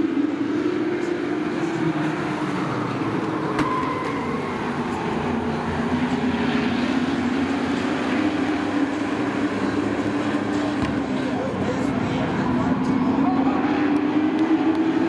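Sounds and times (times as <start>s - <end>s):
racing truck engines droning: 0.0s - 15.0s.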